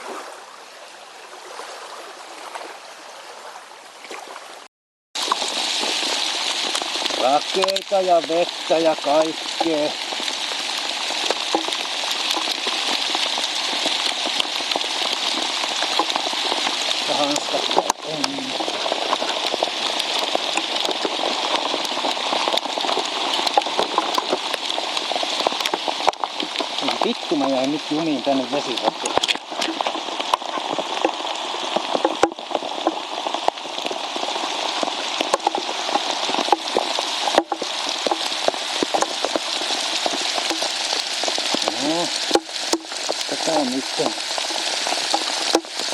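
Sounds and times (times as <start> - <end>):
hailstones striking: 5.2 - 45.9
heavy rain hissing: 5.2 - 45.9
raindrops hitting close: 5.2 - 45.9.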